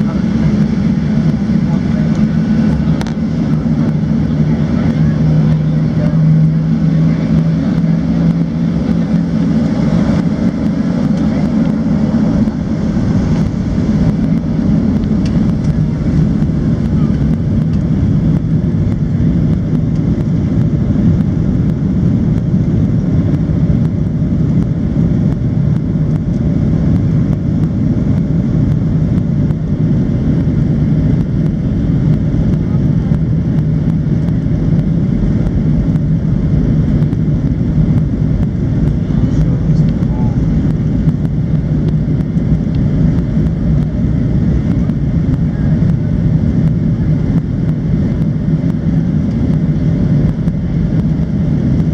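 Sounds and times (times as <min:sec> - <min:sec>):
aircraft cabin engine noise: 0:00.0 - 0:51.9.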